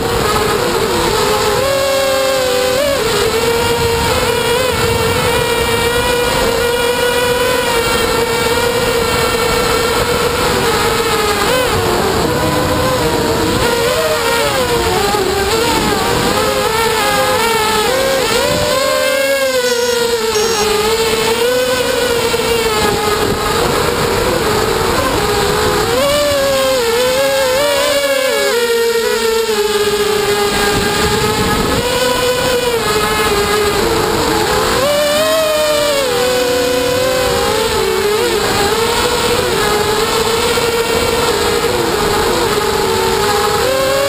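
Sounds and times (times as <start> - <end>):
quadcopter motors whining: 0.0 - 44.0
wind noise: 0.0 - 44.0.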